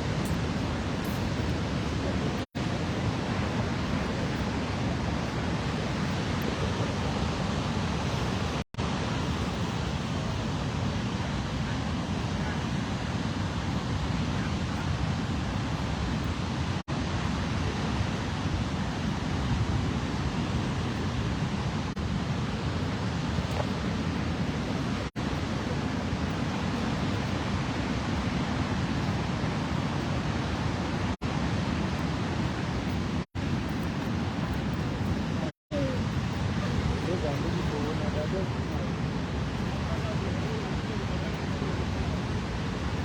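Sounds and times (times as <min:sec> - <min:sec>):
falling water roar: 0:00.0 - 0:43.0.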